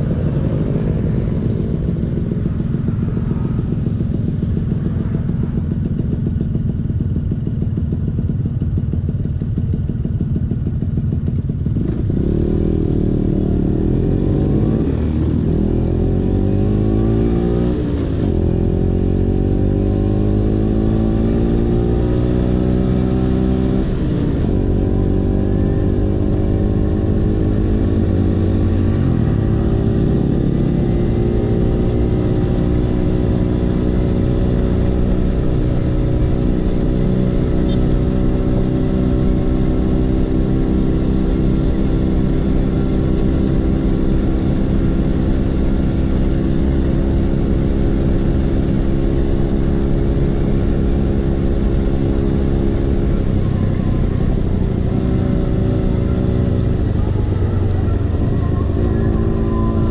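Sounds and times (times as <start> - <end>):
scooter engine accelerating: 0.0 - 59.9.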